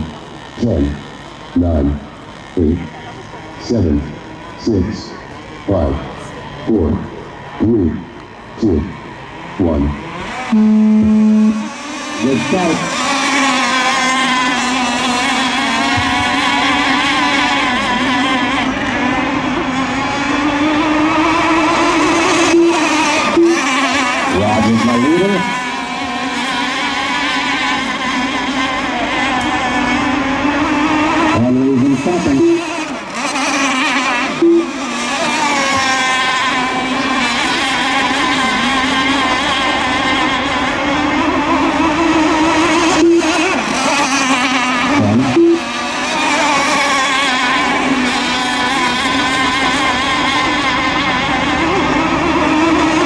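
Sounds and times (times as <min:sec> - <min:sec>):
model boat engines racing: 0:00.0 - 0:53.0.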